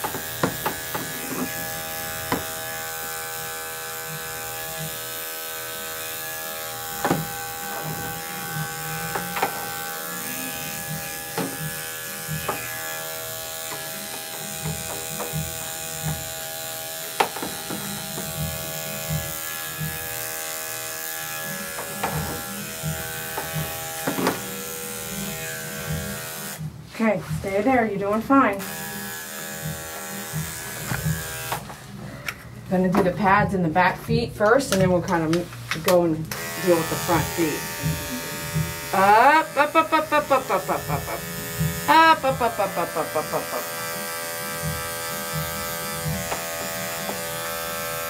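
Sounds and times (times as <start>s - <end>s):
electric clipper running: 0.0s - 26.8s, 28.4s - 31.8s, 36.2s - 48.0s.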